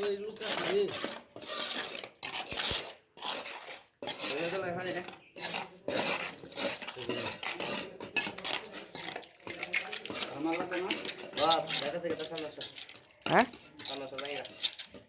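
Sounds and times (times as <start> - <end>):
metal tools scraping wet concrete: 0.0 - 15.0.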